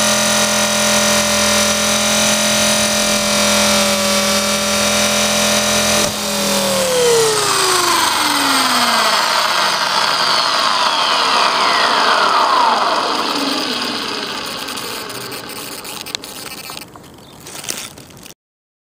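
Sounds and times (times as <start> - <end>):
rc helicopter motor whining: 0.0 - 18.3.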